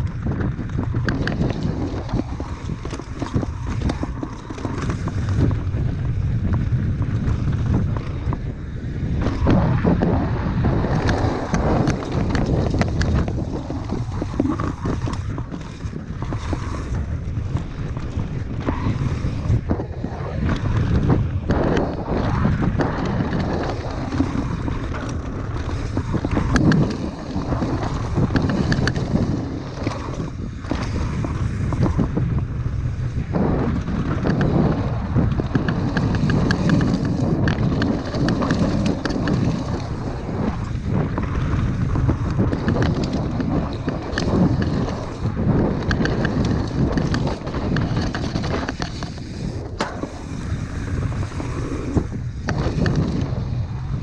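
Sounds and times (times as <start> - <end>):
bike rattling and knocking: 0.0 - 54.0
bike tyres rumbling on dirt: 0.0 - 54.0
wind noise on microphone: 0.0 - 54.0.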